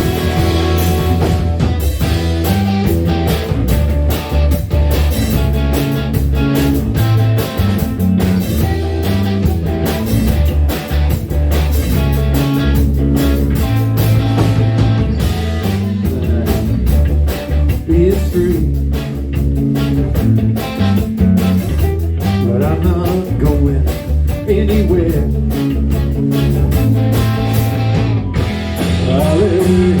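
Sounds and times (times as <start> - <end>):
electric guitar: 0.0 - 30.0
low bass notes: 0.0 - 30.0
steady drum beat: 0.0 - 30.0.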